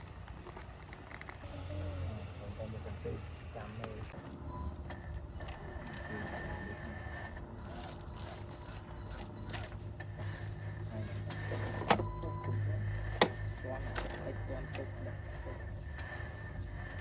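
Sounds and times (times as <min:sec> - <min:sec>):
small electric motors humming: 0:00.0 - 0:17.0.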